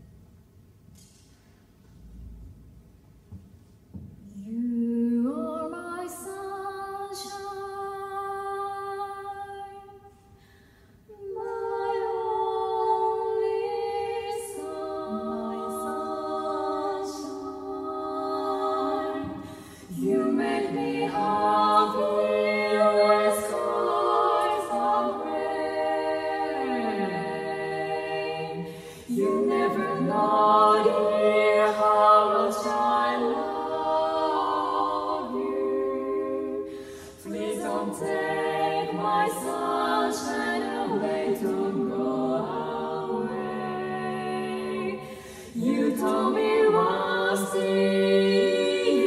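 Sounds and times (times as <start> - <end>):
women singing in close harmony: 4.2 - 10.2, 11.1 - 49.0.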